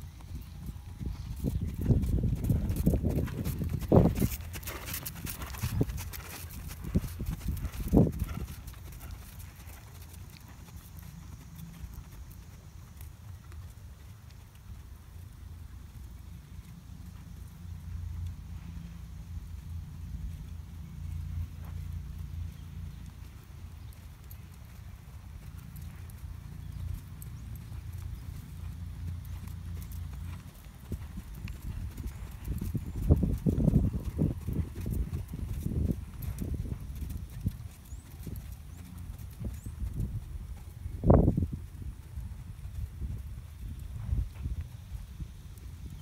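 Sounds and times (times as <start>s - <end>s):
horse hoofbeats on sand: 0.0s - 14.9s, 16.0s - 46.0s
low steady rumble: 0.0s - 46.0s.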